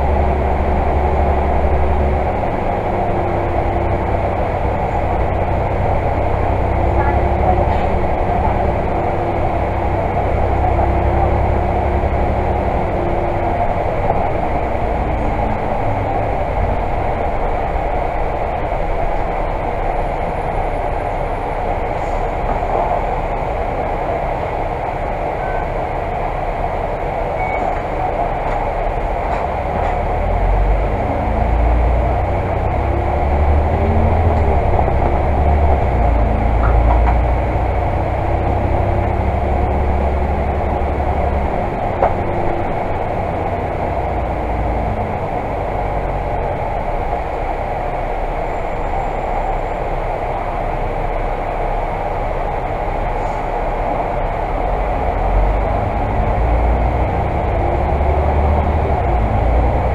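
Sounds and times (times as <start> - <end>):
bus diesel engine: 0.0 - 59.9
road and tyre rumble: 0.0 - 59.9.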